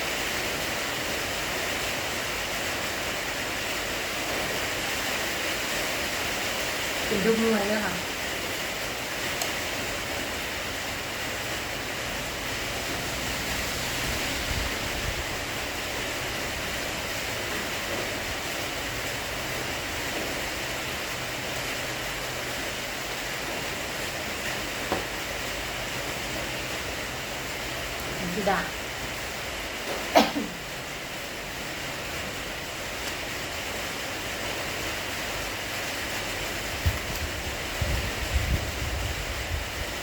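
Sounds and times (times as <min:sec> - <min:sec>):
rain falling steadily: 0:00.0 - 0:40.0.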